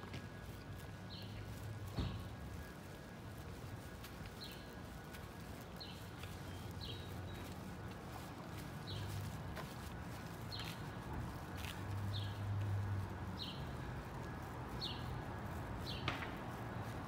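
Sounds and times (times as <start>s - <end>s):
footsteps on sidewalk: 0.0s - 17.0s.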